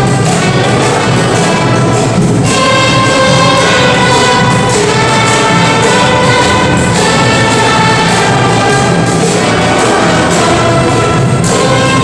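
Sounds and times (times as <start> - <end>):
cellos: 0.0 - 12.0
orchestra playing: 0.0 - 12.0
violins: 0.0 - 12.0.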